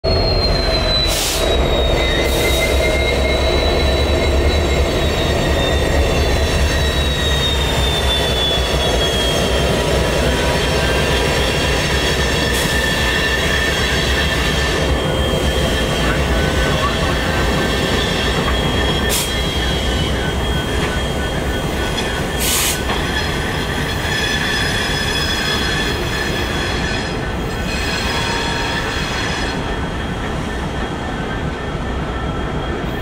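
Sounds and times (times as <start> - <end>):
train rumble: 0.0 - 33.0
train wheels squealing: 0.0 - 33.0.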